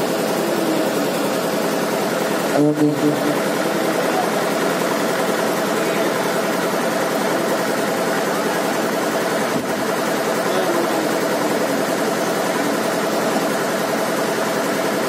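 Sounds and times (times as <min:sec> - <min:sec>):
engine-like humming drone: 0:00.0 - 0:15.0.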